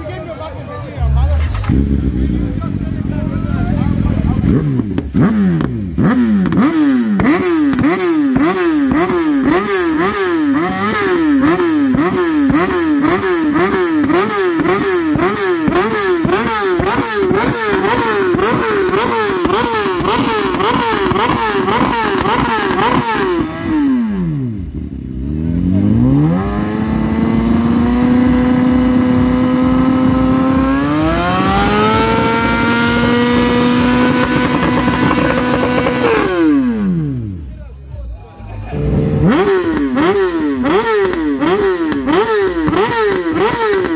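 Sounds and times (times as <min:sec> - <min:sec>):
motorcycle engine revving: 0:00.4 - 0:43.9.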